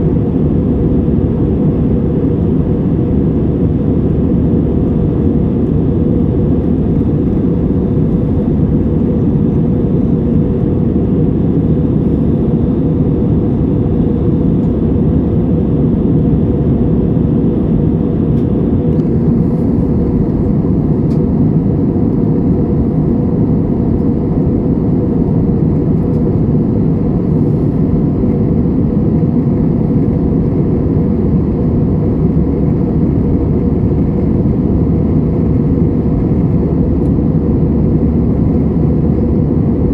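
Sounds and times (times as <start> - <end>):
jet engine cabin noise: 0.0 - 39.9.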